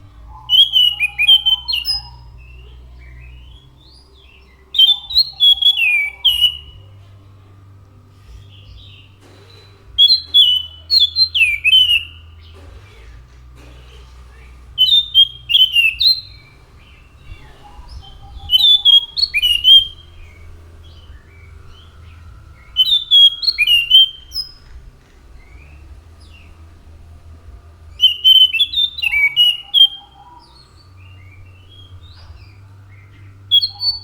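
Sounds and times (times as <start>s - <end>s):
faint low hum: 0.0s - 34.0s
thrush singing whistled notes: 0.0s - 34.0s.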